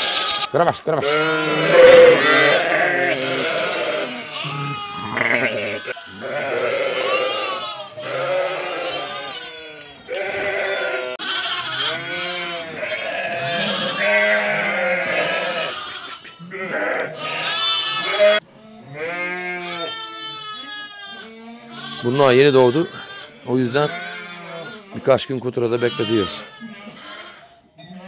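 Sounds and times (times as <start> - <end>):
sheep and lambs bleating: 0.0 - 28.0.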